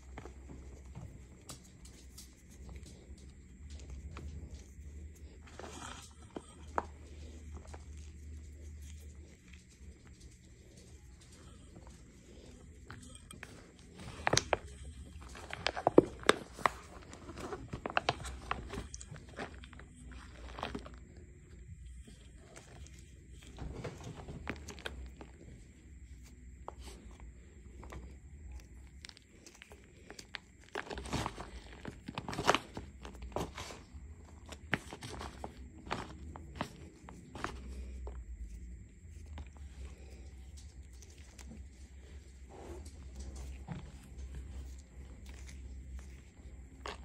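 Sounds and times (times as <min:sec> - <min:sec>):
powder crunching by hand: 0:00.0 - 0:47.0.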